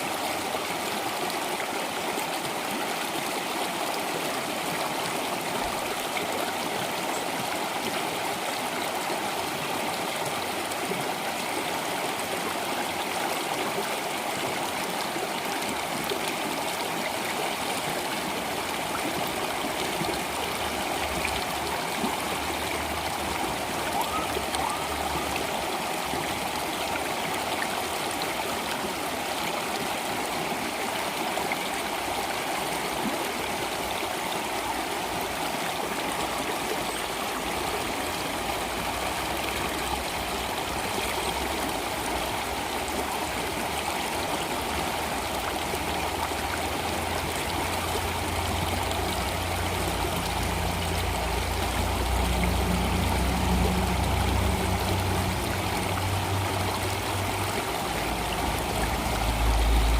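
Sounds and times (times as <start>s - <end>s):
water flowing in a stream: 0.0s - 59.9s.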